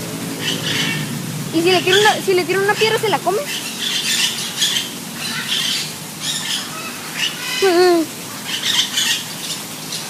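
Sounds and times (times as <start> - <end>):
bird squawking: 0.4 - 1.1, 1.7 - 9.6.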